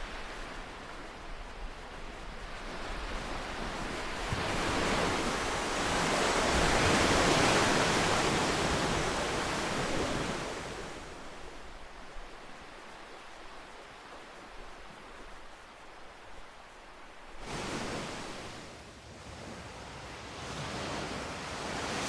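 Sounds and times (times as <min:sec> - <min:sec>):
ocean wave washing: 0:00.0 - 0:18.8
soft wash of surf: 0:00.0 - 0:22.0.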